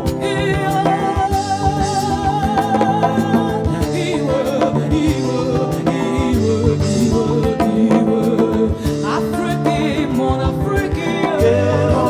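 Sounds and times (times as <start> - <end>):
electric bass: 0.0 - 12.0
woman singing with vibrato: 0.0 - 12.0.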